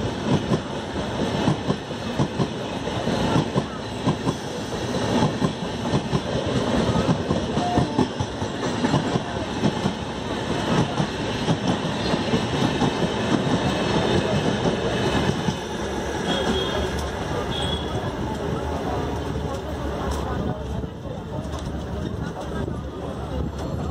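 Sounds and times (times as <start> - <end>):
moving train running noise: 0.0 - 23.9.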